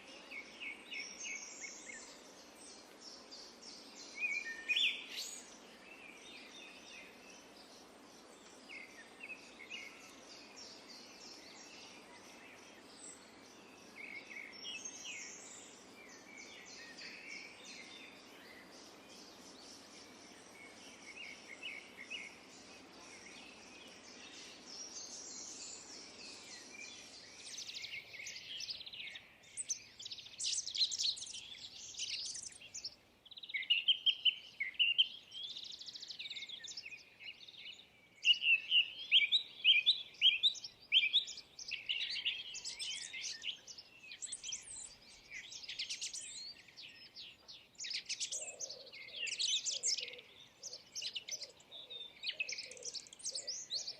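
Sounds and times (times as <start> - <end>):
songbirds chirping and singing: 0.0 - 53.9.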